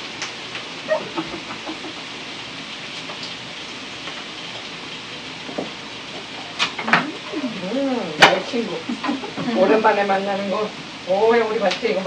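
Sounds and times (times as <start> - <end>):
meat sizzling on grill pan: 0.0 - 12.0.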